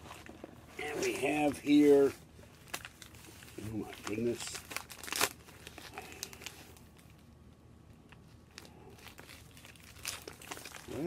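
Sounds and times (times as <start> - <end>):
paper wrapping crinkling: 0.0 - 7.3, 7.9 - 11.0.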